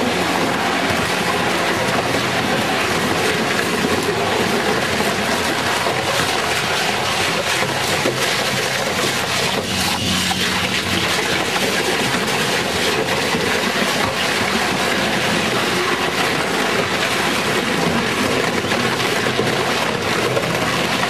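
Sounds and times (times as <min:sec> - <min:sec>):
shredder grinding tyres: 0:00.0 - 0:21.0.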